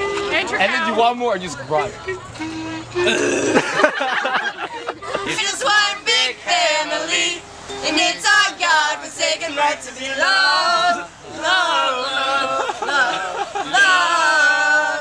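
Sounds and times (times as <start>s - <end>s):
teenagers singing a cappella: 1.7s - 15.0s.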